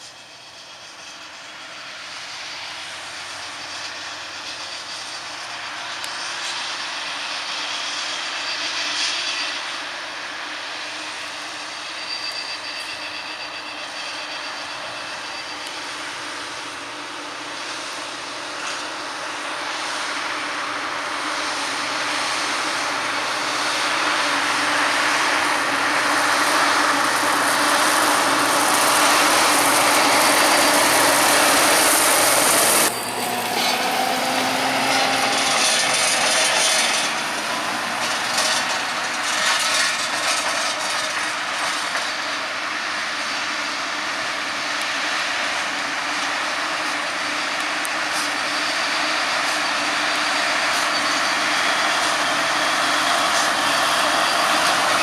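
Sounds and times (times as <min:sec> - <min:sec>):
diesel engine running: 0:00.0 - 0:55.0
tractor engine working: 0:00.0 - 0:55.0.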